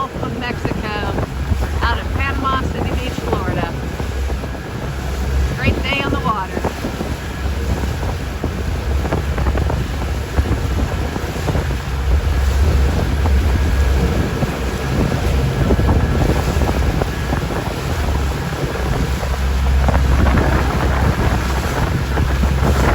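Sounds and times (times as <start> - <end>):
low rumble: 0.0 - 22.9
waves and moving water: 0.0 - 22.9
wind buffeting microphone: 0.0 - 22.9.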